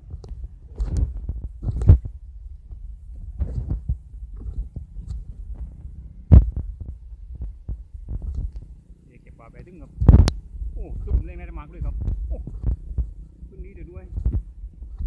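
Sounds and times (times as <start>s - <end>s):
wind thumps on microphone: 0.0s - 8.8s, 9.8s - 15.0s
wind buffeting microphone: 0.0s - 15.0s.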